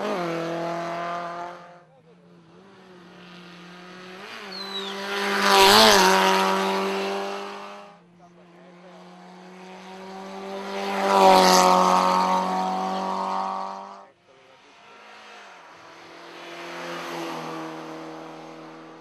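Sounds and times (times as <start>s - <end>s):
race car engines passing: 0.0s - 19.0s.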